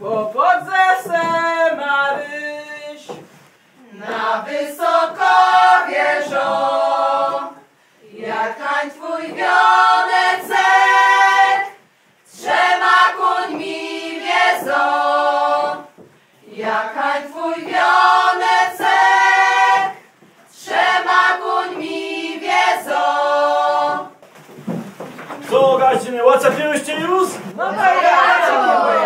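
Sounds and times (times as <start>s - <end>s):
women singing unaccompanied: 0.0s - 3.2s, 3.8s - 24.2s, 27.6s - 29.0s.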